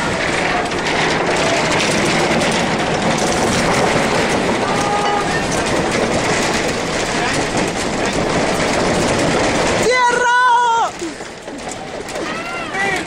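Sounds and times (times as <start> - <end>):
earthquake rumbling and rattling: 0.0 - 13.0.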